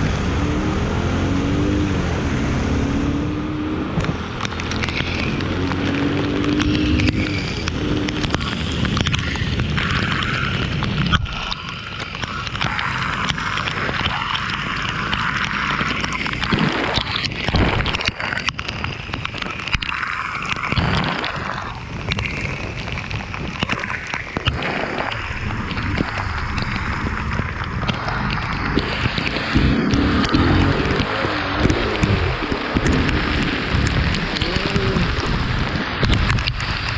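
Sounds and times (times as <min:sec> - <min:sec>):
road and vehicle noise: 0:00.0 - 0:36.9
wind rushing over microphone: 0:00.0 - 0:36.9.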